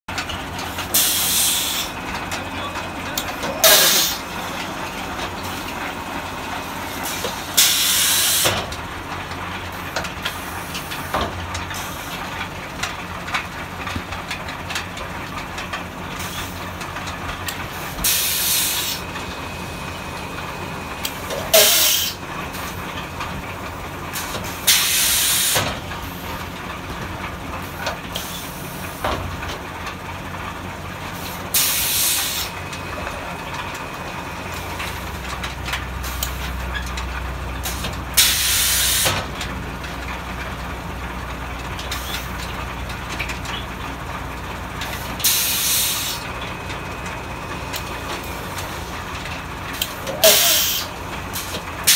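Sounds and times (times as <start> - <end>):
packing machines humming: 0.1 - 51.9.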